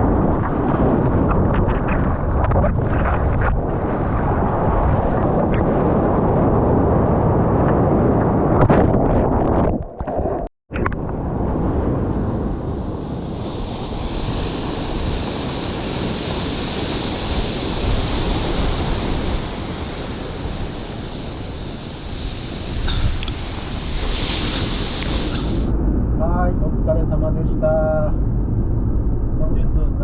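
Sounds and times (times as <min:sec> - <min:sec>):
ocean surf washing: 0:00.0 - 0:27.1
wind buffeting microphone: 0:00.0 - 0:30.0.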